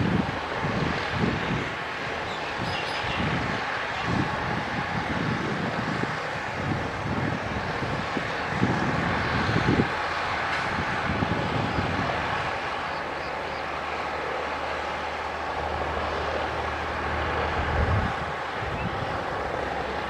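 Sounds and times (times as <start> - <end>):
heavy machinery diesel engine rumbling: 0.0 - 20.0.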